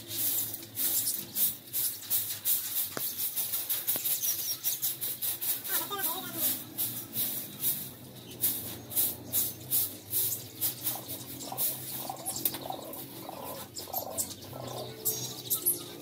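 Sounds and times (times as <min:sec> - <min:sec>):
broom sweeping straw floor: 0:00.0 - 0:13.8
birds chirping: 0:00.0 - 0:16.0.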